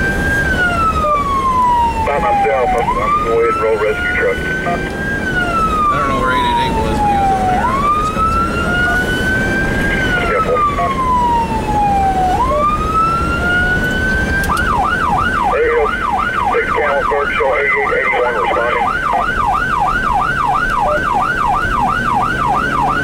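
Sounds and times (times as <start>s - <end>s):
engine and road rumble: 0.0s - 23.0s
fire engine siren: 0.0s - 23.0s.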